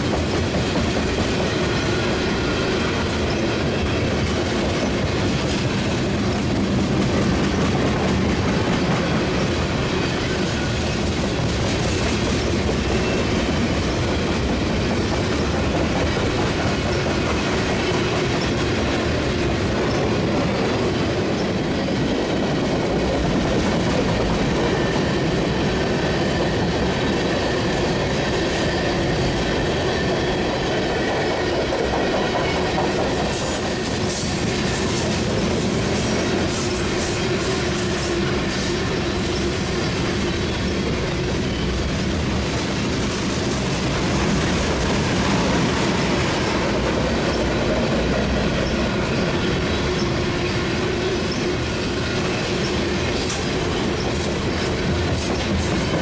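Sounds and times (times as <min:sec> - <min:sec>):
freight train rumbling past: 0:00.0 - 0:56.0
wheels clacking over rails: 0:00.0 - 0:56.0.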